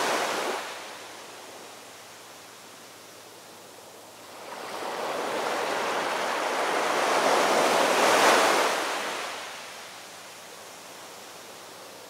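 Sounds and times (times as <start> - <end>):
waves washing up beach: 0.0 - 12.0.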